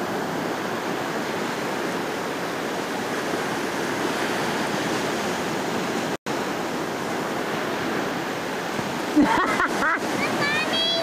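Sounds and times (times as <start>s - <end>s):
ocean surf breaking on shore: 0.0s - 11.0s.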